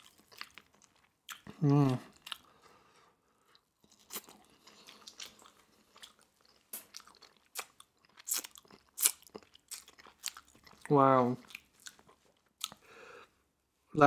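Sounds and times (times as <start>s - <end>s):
open-mouth chewing: 0.0s - 13.0s.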